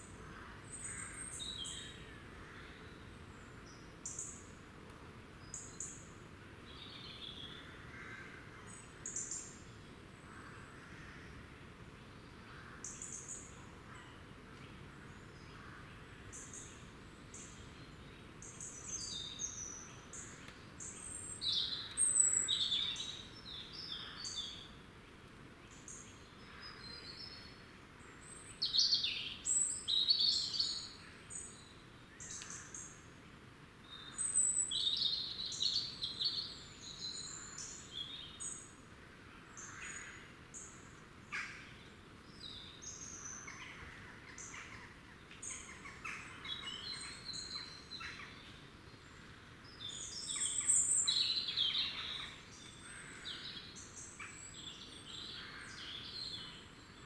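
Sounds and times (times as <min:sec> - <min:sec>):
faint steady hiss: 0:00.0 - 0:57.0
songbirds chirping: 0:00.0 - 0:57.0.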